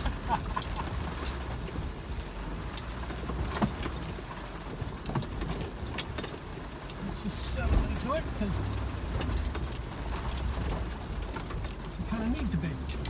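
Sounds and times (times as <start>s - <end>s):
vehicle engine and road rumble: 0.0s - 13.0s
vehicle knocks and rattles: 0.0s - 13.0s.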